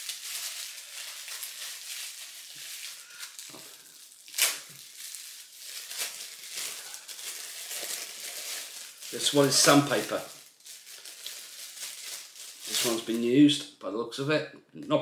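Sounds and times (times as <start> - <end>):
packaging rustling: 0.0 - 13.3.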